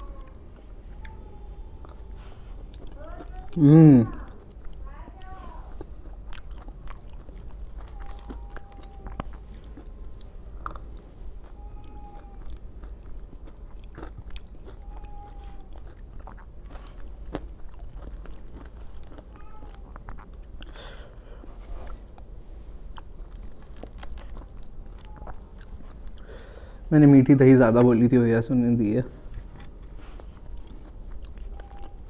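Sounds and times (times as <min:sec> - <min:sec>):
person chewing and crunching: 0:00.0 - 0:28.1, 0:29.1 - 0:32.0.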